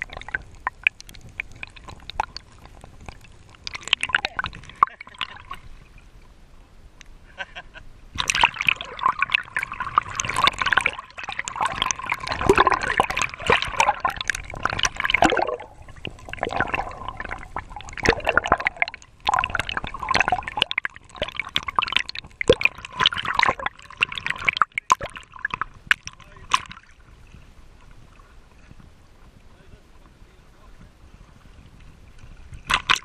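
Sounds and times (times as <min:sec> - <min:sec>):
water sloshing over camera: 0:00.0 - 0:06.4, 0:08.1 - 0:30.2, 0:30.8 - 0:33.0.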